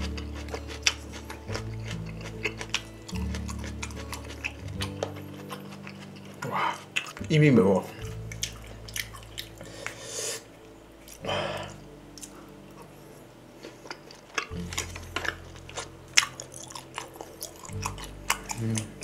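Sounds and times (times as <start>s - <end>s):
chewing food: 0.0s - 10.0s, 11.0s - 19.0s.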